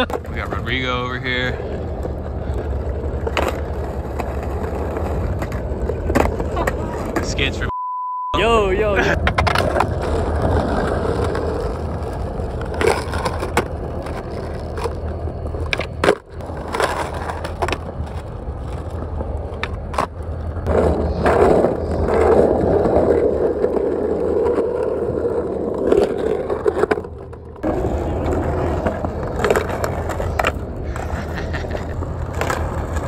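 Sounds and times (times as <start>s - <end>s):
skateboard clacking on ground: 0.0s - 7.5s, 9.2s - 33.0s
skateboard grinding on curb: 0.0s - 7.7s, 9.0s - 33.0s
skateboard wheels rolling on concrete: 0.0s - 7.7s, 8.4s - 33.0s.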